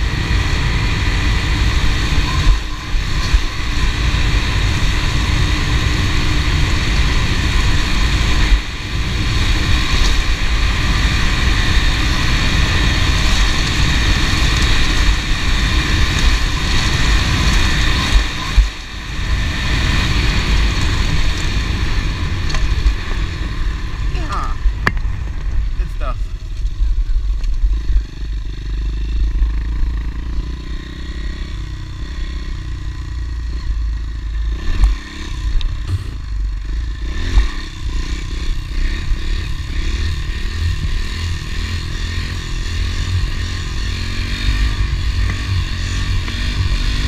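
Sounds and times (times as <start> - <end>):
motorbike engine running: 0.0 - 47.0.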